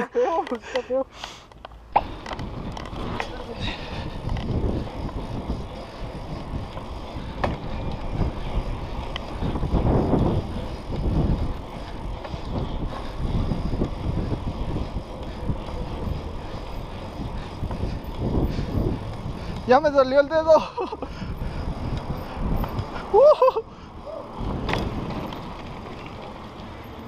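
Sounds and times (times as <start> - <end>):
bike rolling on pavement: 0.0 - 27.0
sharp bike clicks: 0.2 - 27.0
wind buffeting microphone: 2.0 - 26.8.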